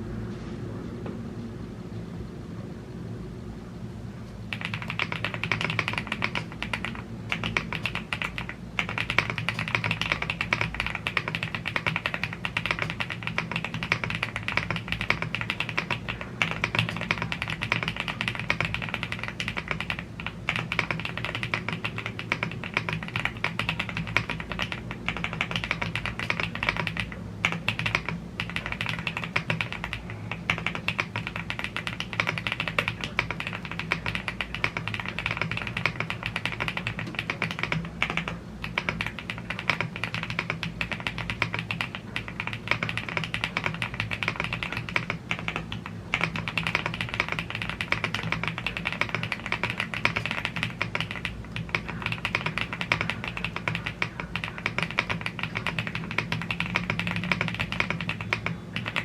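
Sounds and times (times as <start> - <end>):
fast mechanical keyboard typing: 4.5 - 59.0.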